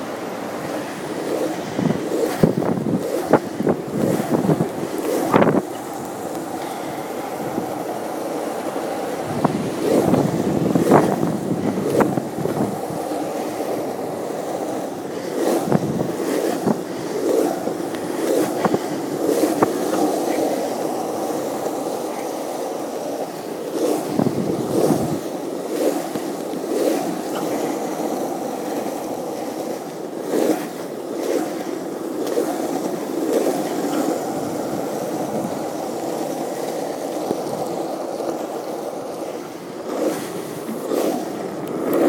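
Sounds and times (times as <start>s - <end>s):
skateboard wheels rolling on wet street: 0.0s - 42.0s.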